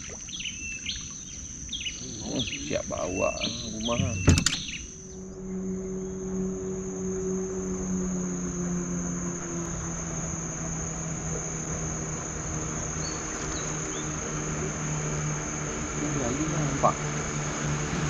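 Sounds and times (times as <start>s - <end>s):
high-pitched insect drone: 0.0s - 18.0s
low motor hum: 0.0s - 18.0s.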